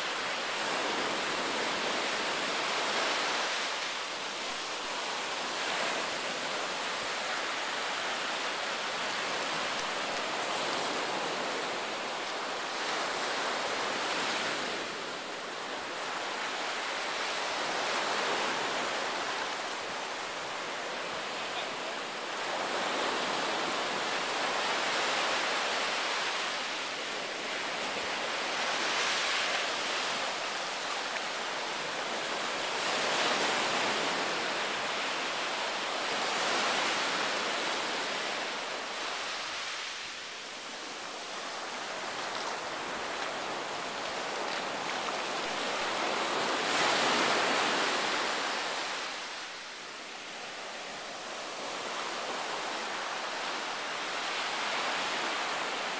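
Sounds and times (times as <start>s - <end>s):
small waves breaking on beach: 0.0s - 55.9s.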